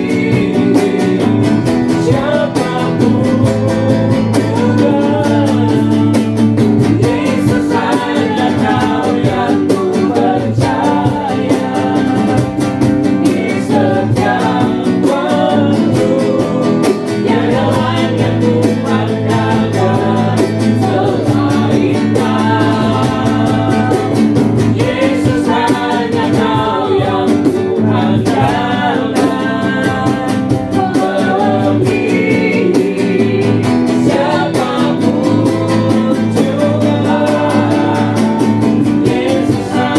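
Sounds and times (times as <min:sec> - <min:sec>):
guitar accompaniment: 0:00.0 - 0:39.9
person singing: 0:00.0 - 0:39.9.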